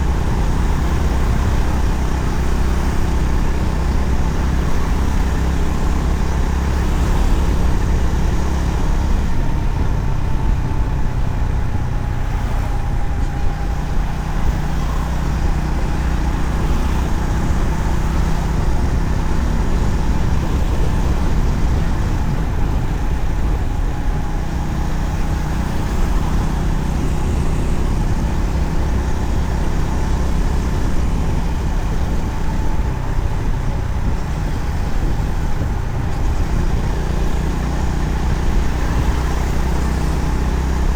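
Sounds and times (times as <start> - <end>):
wind rush: 0.0 - 40.7
motorcycle engine cruising: 0.0 - 40.9
road noise: 0.0 - 40.9.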